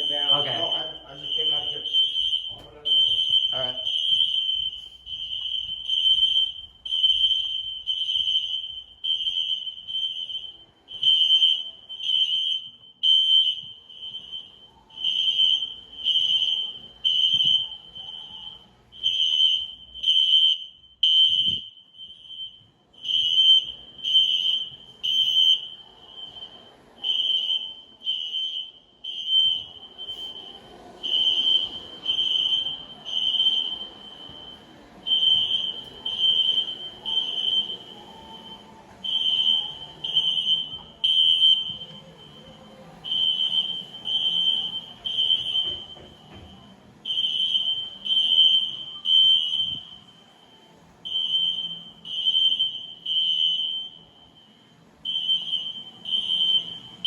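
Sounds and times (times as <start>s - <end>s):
fire alarm horns pulsing: 0.0s - 57.0s.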